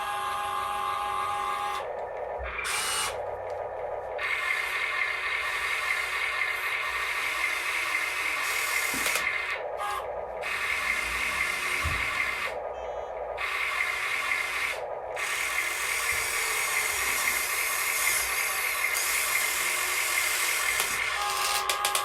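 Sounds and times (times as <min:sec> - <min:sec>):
electric motor whine: 0:00.0 - 0:12.6, 0:13.4 - 0:22.0.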